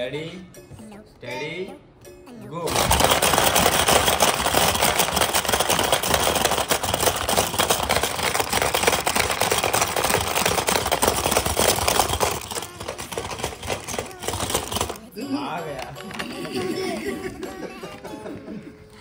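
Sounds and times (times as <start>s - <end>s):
plastic game clacking and rattling: 2.7s - 18.4s.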